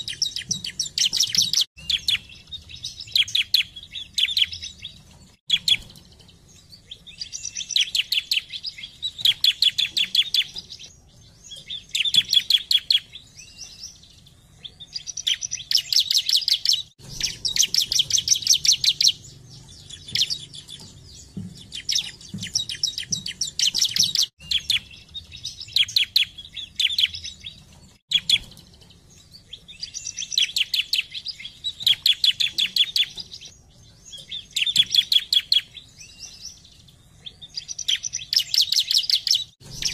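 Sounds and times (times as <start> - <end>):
bird singing rapid ticking chirps: 0.0 - 39.9.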